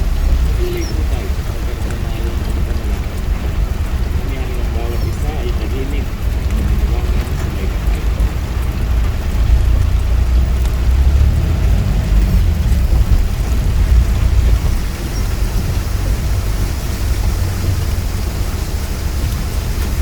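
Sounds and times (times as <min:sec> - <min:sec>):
deep continuous rumble: 0:00.0 - 0:20.0
rain: 0:00.0 - 0:20.0.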